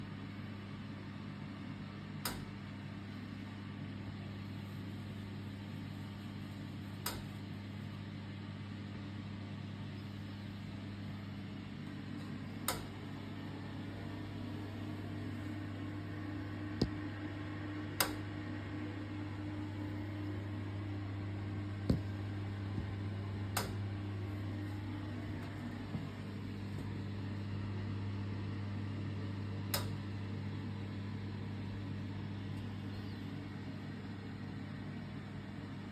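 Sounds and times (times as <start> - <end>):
radiator humming: 0.0 - 35.9.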